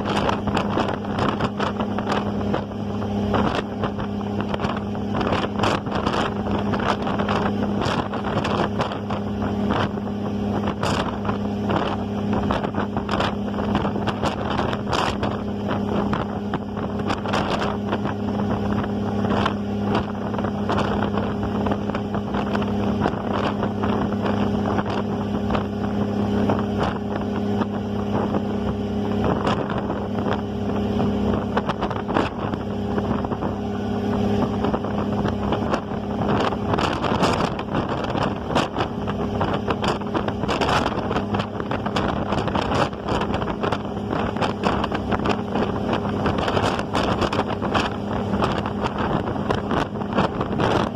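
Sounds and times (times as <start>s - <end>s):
ferry engine droning: 0.0s - 50.9s
wind buffeting microphone: 0.0s - 50.9s.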